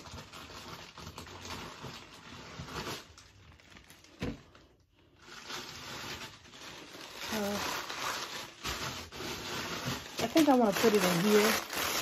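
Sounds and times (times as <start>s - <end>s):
rummaging and rustling: 0.0s - 12.0s.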